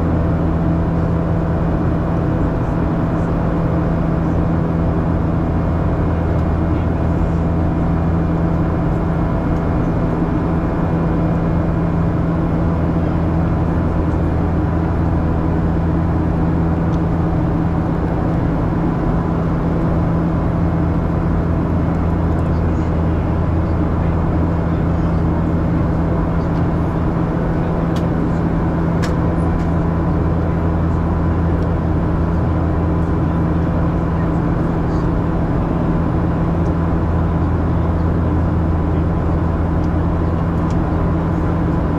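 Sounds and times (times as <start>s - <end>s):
airplane cabin drone: 0.0s - 41.9s.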